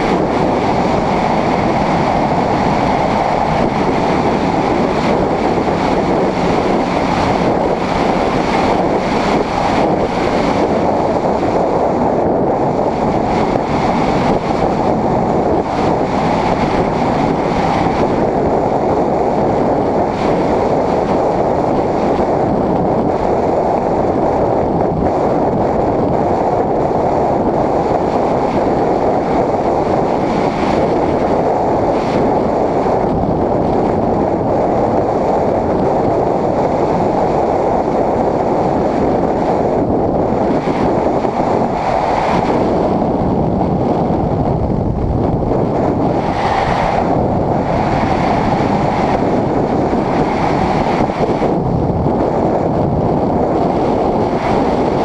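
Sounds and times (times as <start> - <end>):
motorcycle running: 0.0 - 55.0
wind rush on microphone: 0.0 - 55.0.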